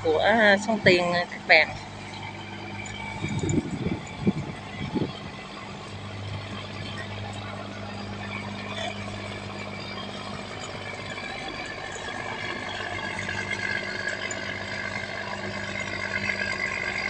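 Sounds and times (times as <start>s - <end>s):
barge diesel engine humming: 0.0s - 17.0s
water rushing along hull: 0.0s - 17.0s.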